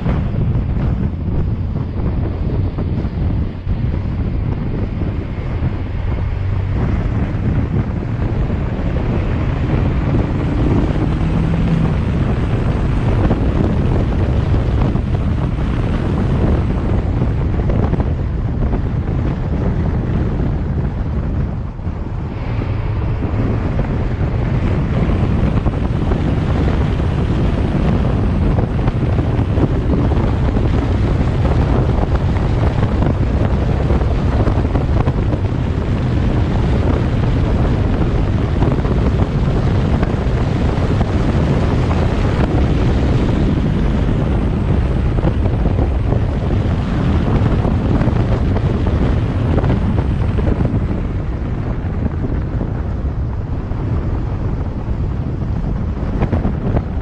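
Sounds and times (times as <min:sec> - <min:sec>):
car road noise: 0:00.0 - 0:57.0
wind buffeting microphone: 0:00.0 - 0:57.0.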